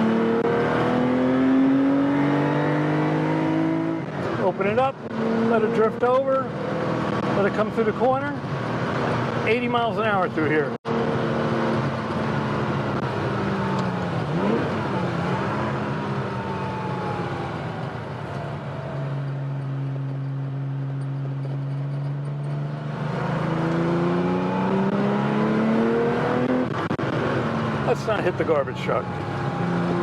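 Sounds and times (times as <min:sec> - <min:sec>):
car engine accelerating: 0:00.0 - 0:09.5, 0:10.9 - 0:30.0.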